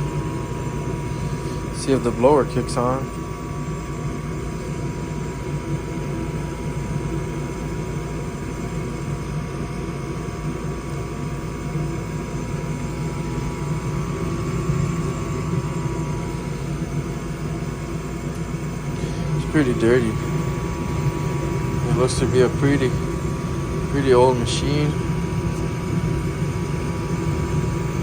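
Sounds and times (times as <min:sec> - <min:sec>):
gas furnace humming: 0:00.0 - 0:28.0.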